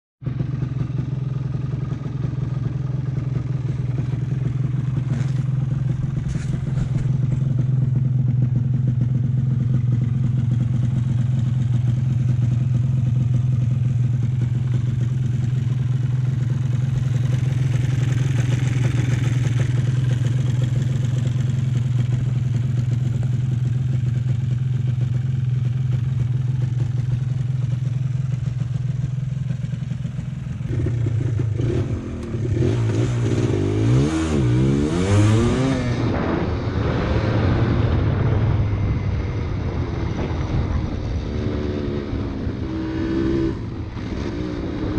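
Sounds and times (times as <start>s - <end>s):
motorcycle engine running: 0.2s - 44.9s.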